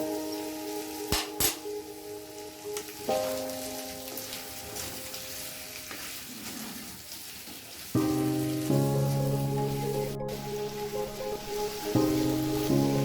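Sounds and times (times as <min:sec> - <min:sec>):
background music: 0:00.0 - 0:05.9, 0:08.0 - 0:13.0
food sizzling in a pan: 0:00.0 - 0:13.0.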